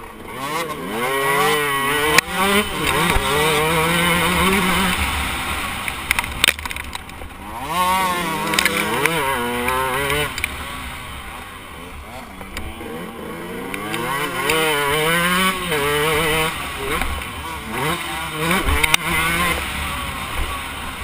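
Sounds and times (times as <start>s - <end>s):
motocross bike engine revving: 0.0s - 21.0s.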